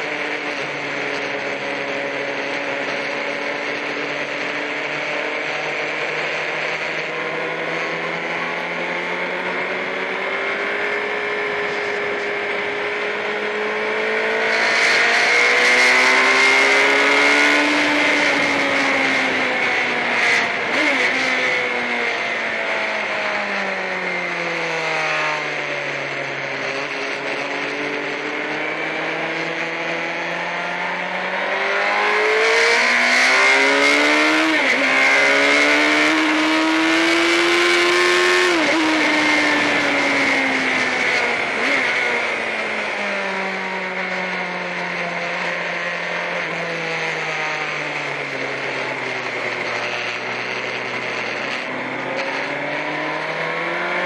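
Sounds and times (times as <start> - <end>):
sportbike engine: 0.0 - 54.0.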